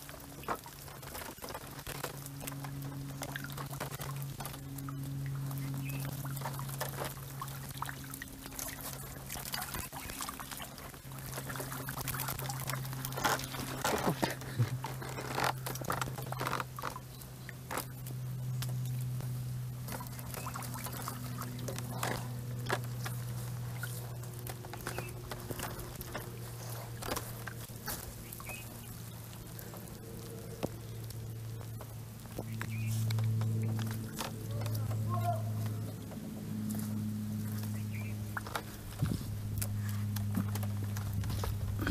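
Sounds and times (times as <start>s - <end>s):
steady low hum: 0.0s - 41.9s
taps and splashes: 0.0s - 41.9s
water trickling and pouring: 0.0s - 41.9s.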